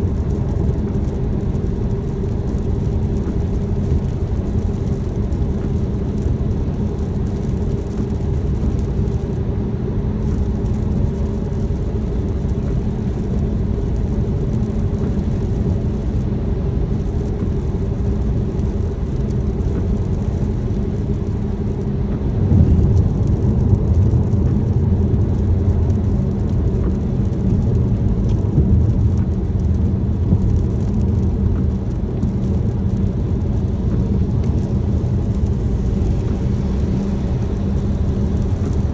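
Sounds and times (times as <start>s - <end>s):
rain patter: 0.0s - 38.9s
road and engine noise: 0.0s - 38.9s.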